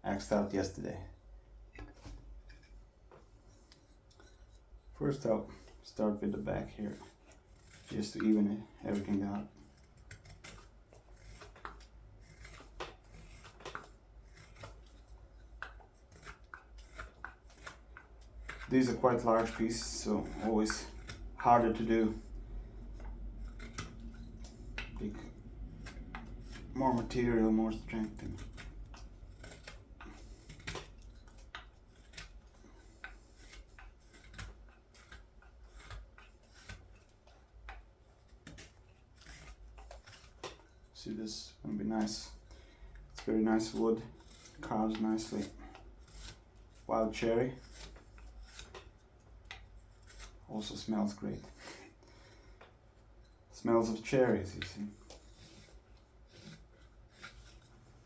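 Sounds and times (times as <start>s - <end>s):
knife slicing wood shavings: 5.1s - 52.7s, 53.8s - 58.0s.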